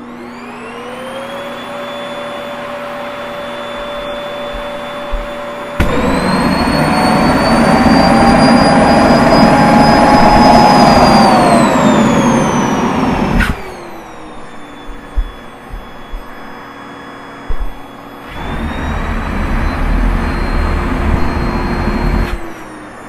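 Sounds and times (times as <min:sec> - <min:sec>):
vacuum cleaner motor whining: 0:00.0 - 0:23.0.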